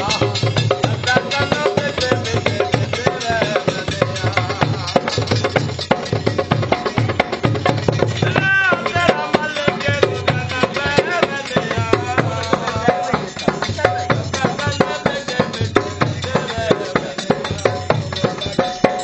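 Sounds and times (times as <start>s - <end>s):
person singing: 0.0s - 5.7s, 8.2s - 19.0s
fast drum and percussion beat: 0.0s - 19.0s.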